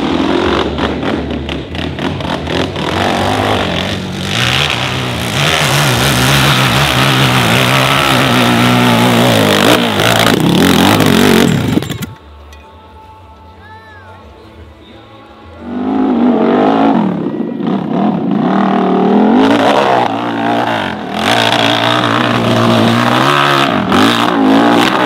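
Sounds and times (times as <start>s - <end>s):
motorcycle engine revving: 0.0s - 12.2s, 15.7s - 25.0s.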